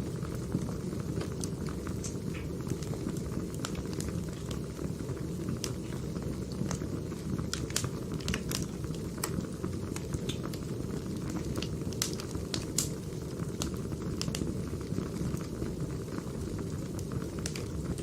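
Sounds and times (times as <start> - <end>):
firewood burning and crackling: 0.0 - 18.0.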